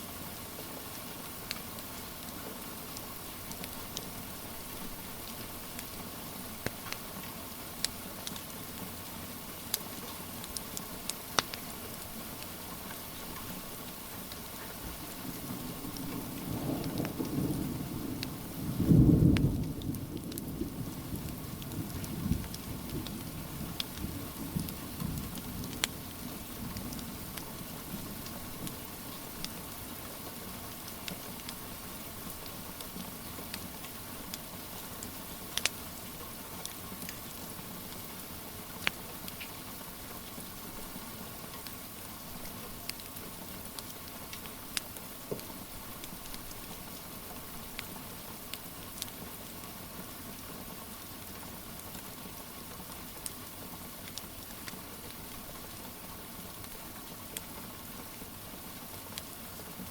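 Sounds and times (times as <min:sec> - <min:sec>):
steady rain: 0:00.0 - 0:59.9
wood fire crackling: 0:00.8 - 0:17.6, 0:18.2 - 0:59.9.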